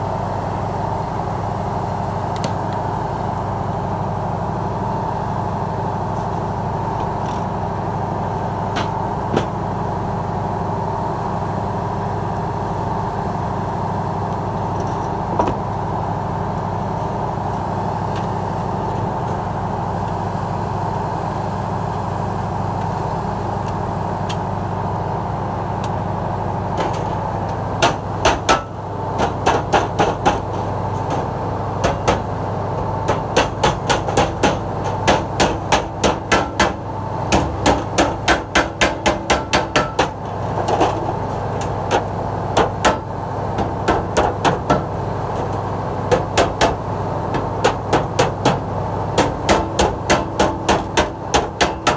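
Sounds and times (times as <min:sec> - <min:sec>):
engine hum: 0:00.0 - 0:51.9.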